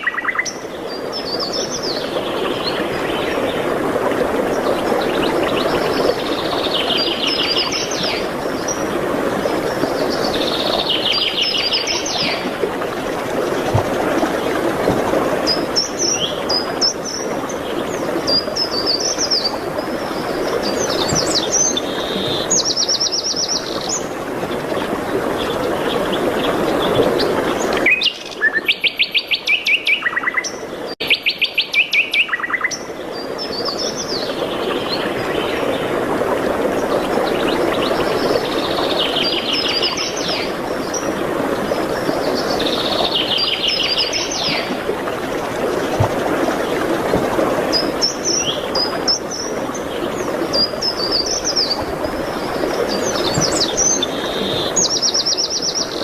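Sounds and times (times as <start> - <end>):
songbirds singing: 0.0 - 35.9, 36.8 - 46.9, 47.6 - 56.0.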